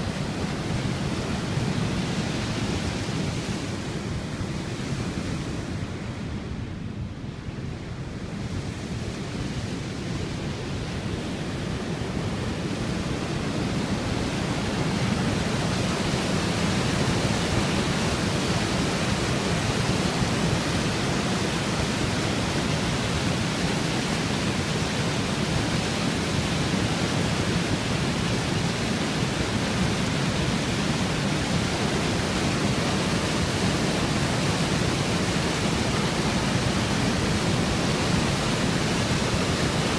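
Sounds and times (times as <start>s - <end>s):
river rushing over a weir: 0.0s - 39.9s.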